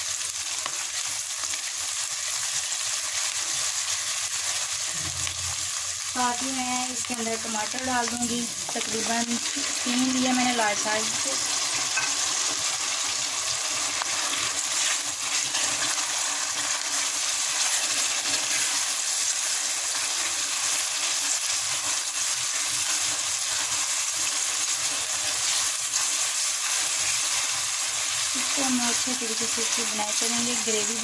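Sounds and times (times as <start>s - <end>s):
spatula stirring in a pan: 0.0s - 30.1s
vegetables sizzling in oil: 0.0s - 31.0s.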